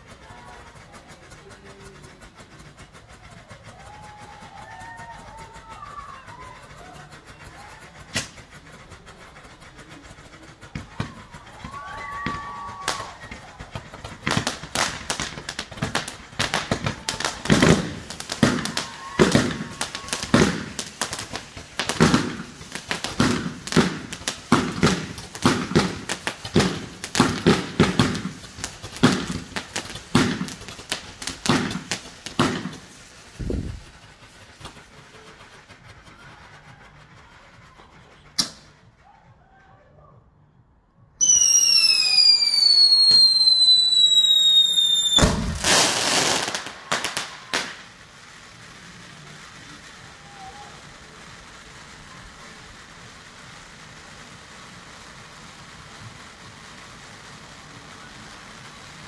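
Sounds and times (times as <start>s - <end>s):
firework hiss: 0.0s - 39.0s, 41.2s - 59.0s
firework bangs and crackles: 0.0s - 39.1s, 41.0s - 59.0s
screaming firework whistles: 0.0s - 40.0s, 41.2s - 59.0s.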